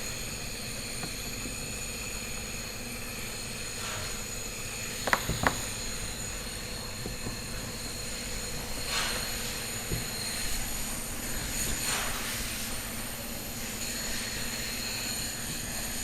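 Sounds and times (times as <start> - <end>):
shop equipment humming: 0.0 - 16.0.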